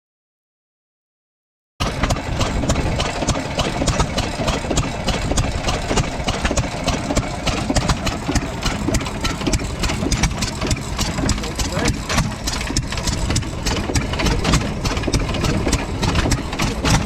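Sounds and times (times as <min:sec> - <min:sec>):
stationary gas engine ticking: 0:01.8 - 0:17.0.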